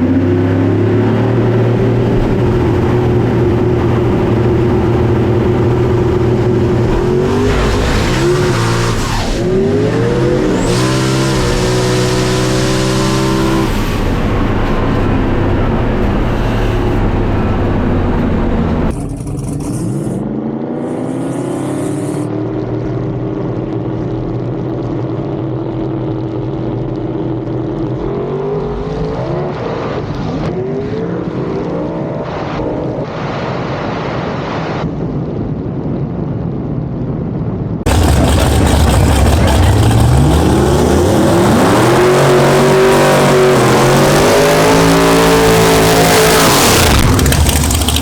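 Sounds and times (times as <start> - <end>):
race car engines revving: 0.0 - 34.2, 37.8 - 48.0.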